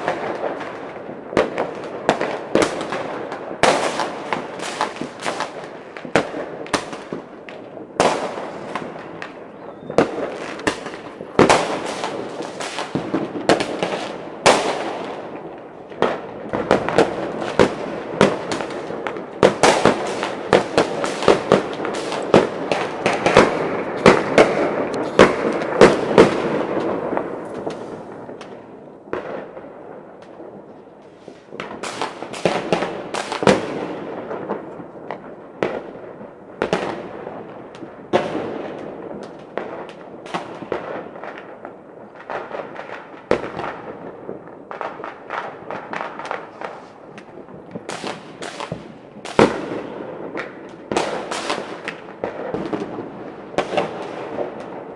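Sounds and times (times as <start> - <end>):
fireworks banging and crackling: 0.0 - 54.9.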